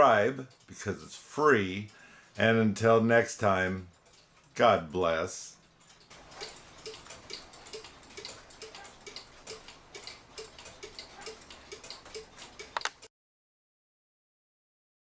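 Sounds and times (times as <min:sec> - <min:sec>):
cuckoo clock ticking: 0:00.0 - 0:13.1.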